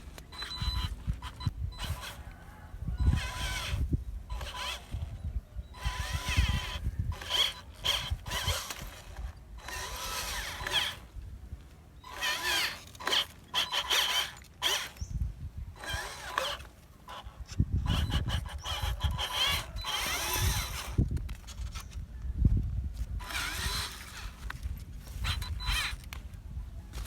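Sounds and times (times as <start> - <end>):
electric motors whining: 0.0 - 22.1, 22.9 - 27.0.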